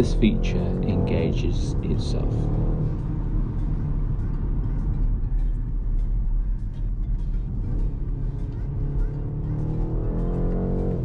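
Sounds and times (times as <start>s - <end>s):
background music: 0.0s - 11.0s
car engine droning: 0.0s - 11.0s
road noise: 0.0s - 11.0s.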